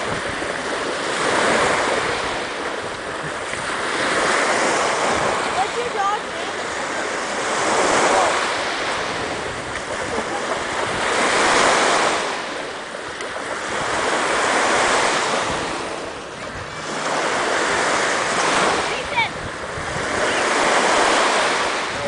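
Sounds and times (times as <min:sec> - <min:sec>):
small waves washing on shore: 0:00.0 - 0:22.0.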